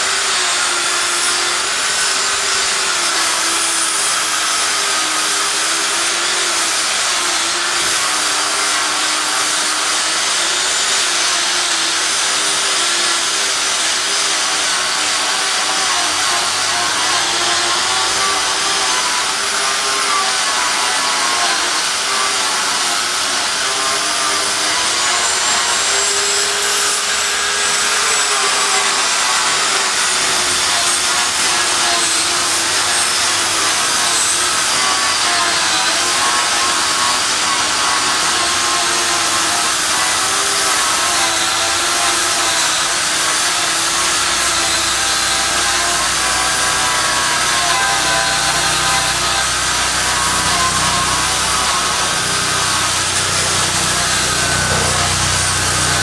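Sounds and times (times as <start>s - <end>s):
electric grinding machine: 0.0s - 56.0s.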